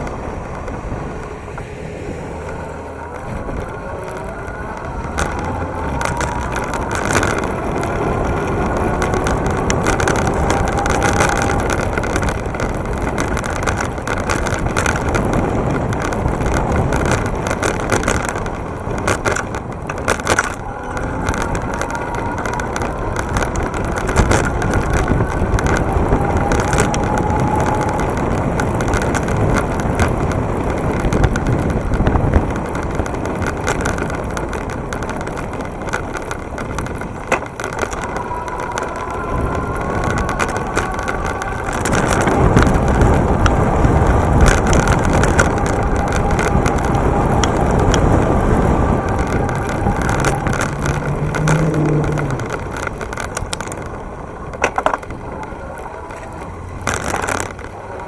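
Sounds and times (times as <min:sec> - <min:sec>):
tyre rumble: 0:00.0 - 0:58.0
wind noise: 0:00.0 - 0:58.0
knocks and rattles: 0:02.5 - 0:57.8.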